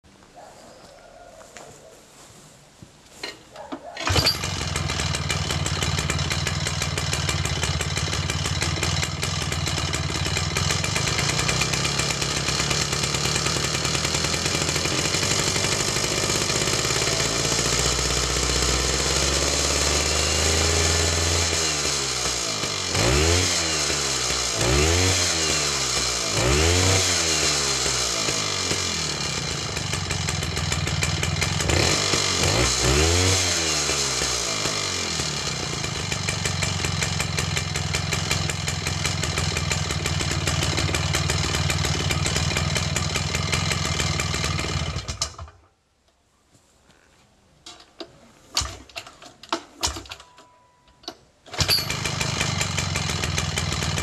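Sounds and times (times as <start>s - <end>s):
two-stroke engine running: 4.0s - 45.5s, 51.5s - 54.0s.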